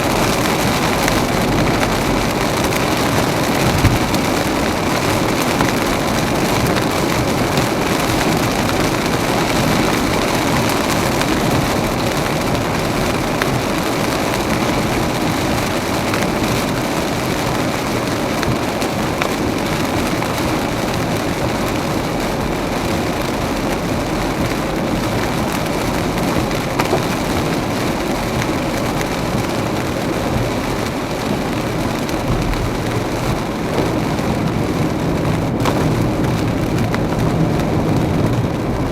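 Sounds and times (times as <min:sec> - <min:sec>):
car tyres on flooded road: 0:00.0 - 0:38.9
heavy rain: 0:00.0 - 0:38.9.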